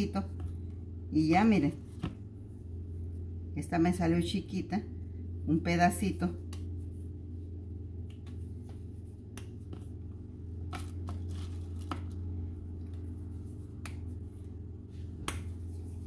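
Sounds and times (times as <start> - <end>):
hands patting dough: 0.0 - 3.4, 6.3 - 16.0
low hum: 0.0 - 16.0.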